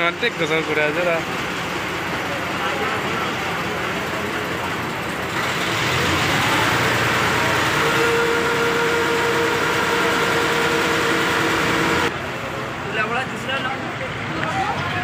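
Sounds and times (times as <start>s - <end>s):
ferry engine running: 0.0s - 15.0s.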